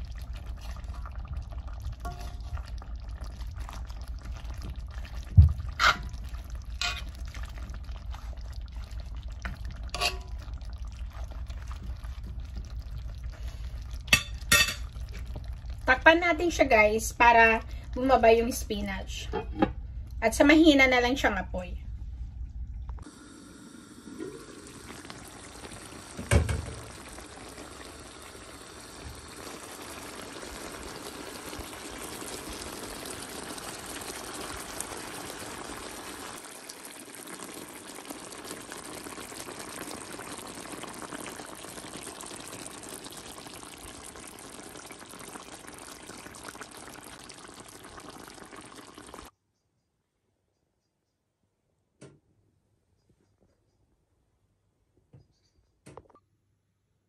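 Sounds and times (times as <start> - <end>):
stew simmering in a pan: 0.0 - 49.3.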